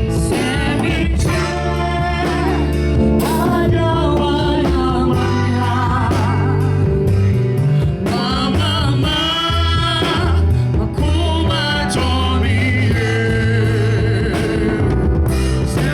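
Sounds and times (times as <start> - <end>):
gospel band music: 0.0 - 15.9.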